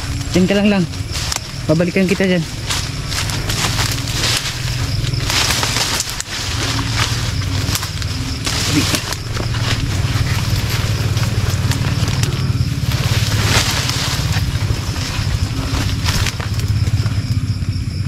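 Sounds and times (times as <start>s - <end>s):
sharp snaps of twigs: 0.0s - 17.4s
brush crunching underfoot: 0.0s - 17.6s
steady low rumble: 0.0s - 18.0s.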